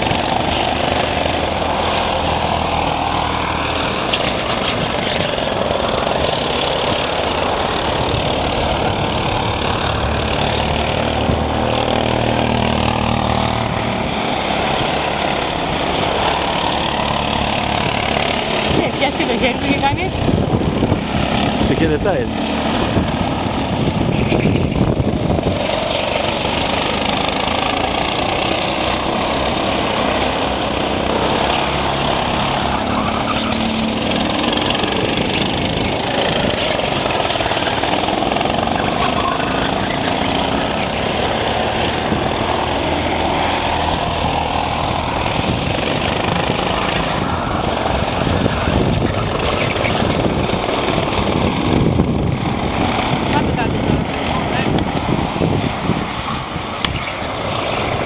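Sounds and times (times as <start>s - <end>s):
go-kart engines droning: 0.0s - 58.0s.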